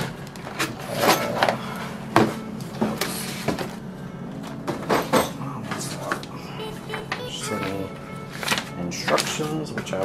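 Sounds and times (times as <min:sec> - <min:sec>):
cardboard and plastic rustling: 0:00.0 - 0:10.0.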